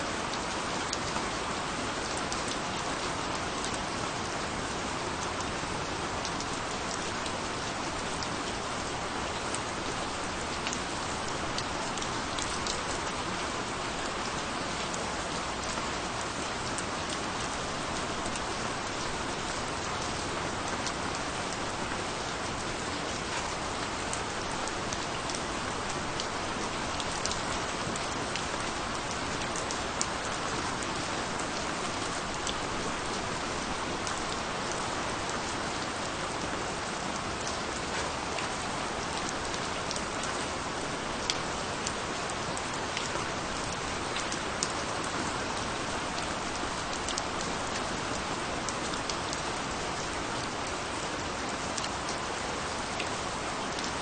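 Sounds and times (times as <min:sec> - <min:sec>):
rain falling: 0:00.0 - 0:54.0
raindrops ticking on surface: 0:00.2 - 0:54.0.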